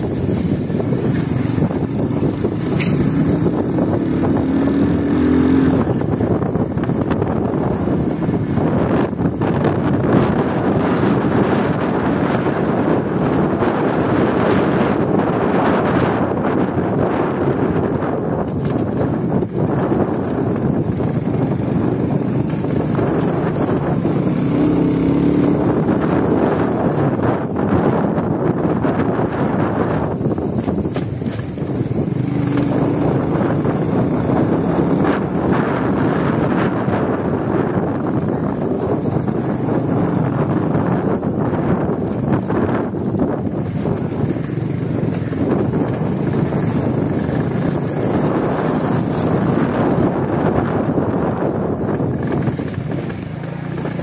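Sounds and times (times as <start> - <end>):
small motorcycle engine running: 0.0 - 54.0
wind rushing over microphone: 0.0 - 54.0.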